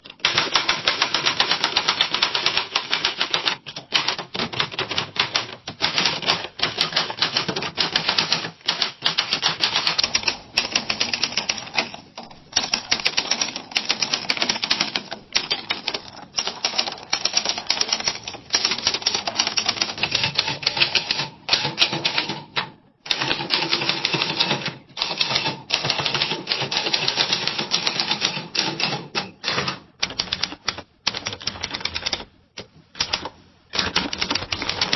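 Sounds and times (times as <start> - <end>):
typewriter keys clacking: 0.0 - 34.9.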